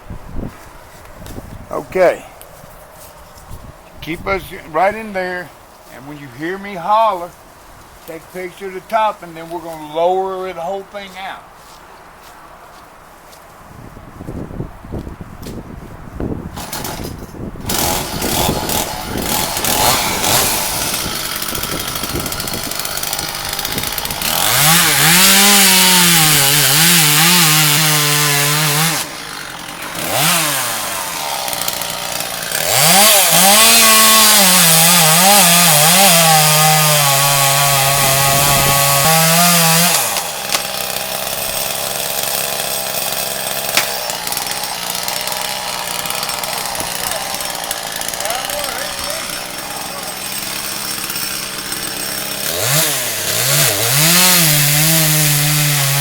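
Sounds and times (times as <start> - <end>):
chainsaw idling and cutting wood: 4.0 - 11.4, 16.5 - 56.0.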